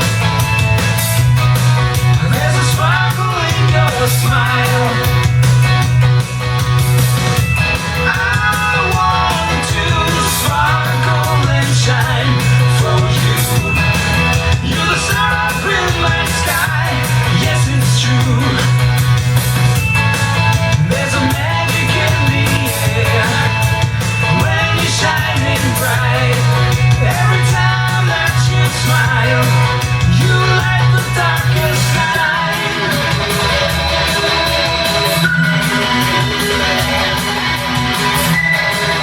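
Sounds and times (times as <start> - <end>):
rock song over loudspeakers: 0.0 - 39.0.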